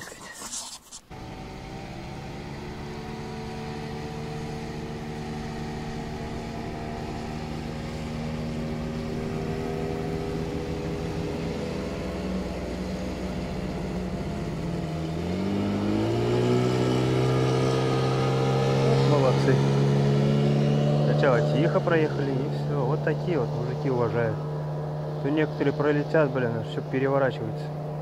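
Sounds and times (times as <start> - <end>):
motorboat engine approaching: 1.1 - 28.0.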